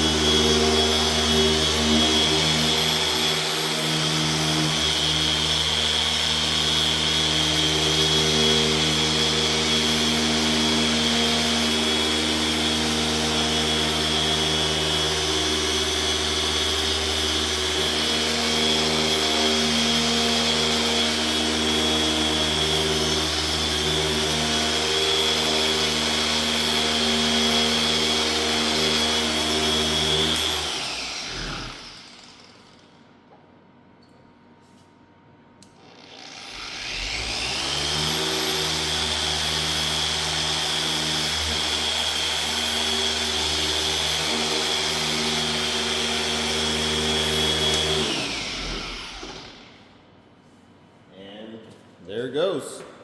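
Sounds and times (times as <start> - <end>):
electric polisher whining: 0.0 - 32.9, 35.8 - 49.9
polisher spinning down: 0.0 - 33.1, 35.8 - 49.9.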